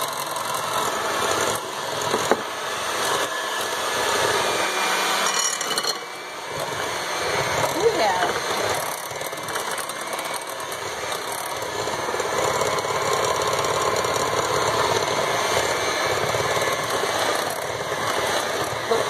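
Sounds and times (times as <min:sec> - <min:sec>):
electric hand mixer running: 0:00.0 - 0:19.0.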